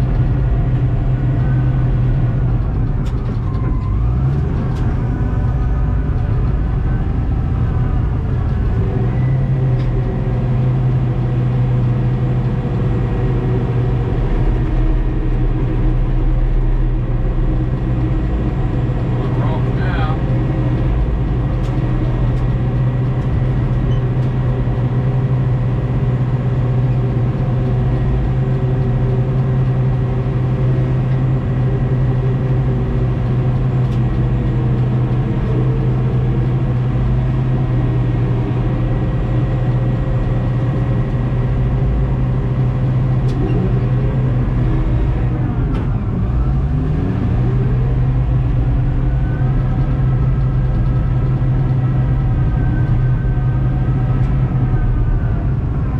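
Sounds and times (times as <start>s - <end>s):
loud bulldozer diesel engine: 0.0s - 55.9s.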